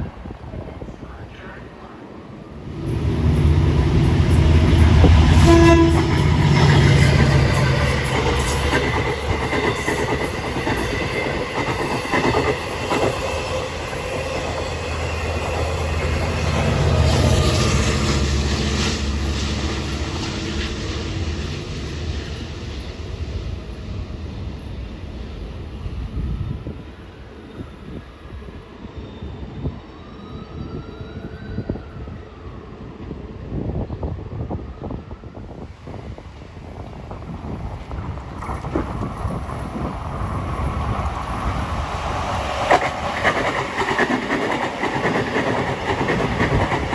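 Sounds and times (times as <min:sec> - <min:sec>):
train passing rumble: 0:00.0 - 0:46.9.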